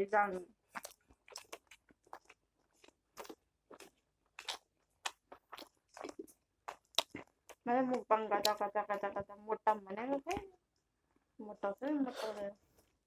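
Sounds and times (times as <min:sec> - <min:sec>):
chewing and crunching food: 0:00.2 - 0:11.4.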